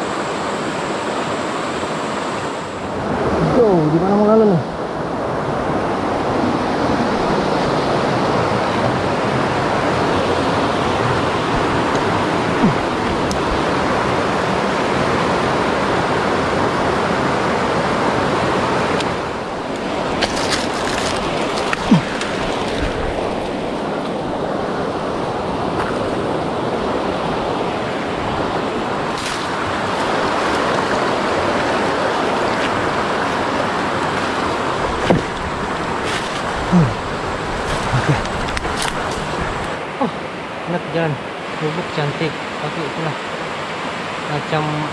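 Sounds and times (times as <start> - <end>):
stream rapids rushing: 0.0 - 44.9.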